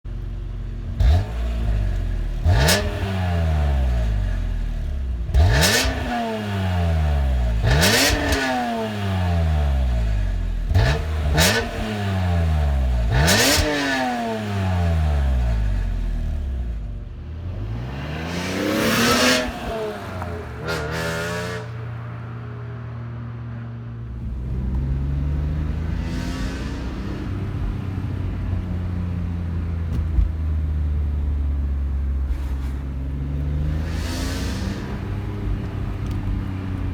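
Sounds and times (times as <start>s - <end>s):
car engine revving: 0.1s - 36.9s.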